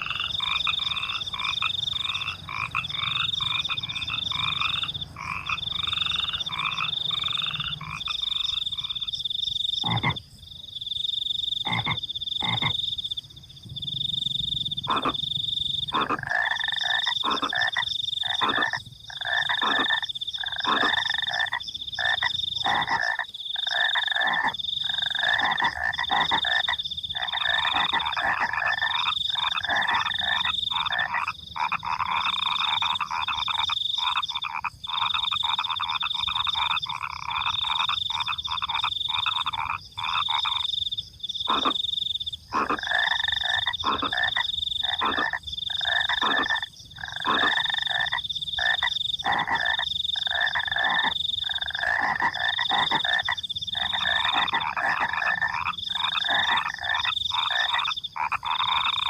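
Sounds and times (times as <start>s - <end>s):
cricket trilling: 0.0s - 59.0s
frogs calling: 0.0s - 59.0s.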